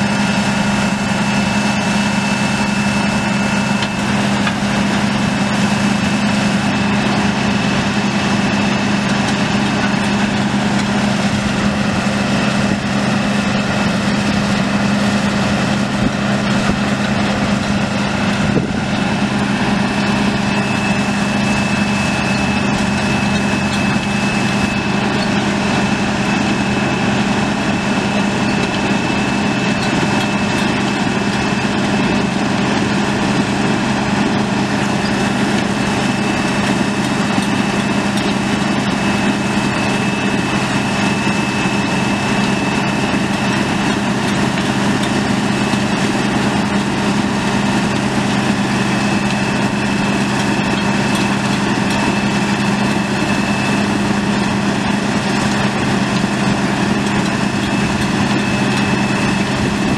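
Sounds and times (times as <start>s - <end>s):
diesel engine running steadily: 0.0s - 59.9s
thin high whine: 0.0s - 59.9s.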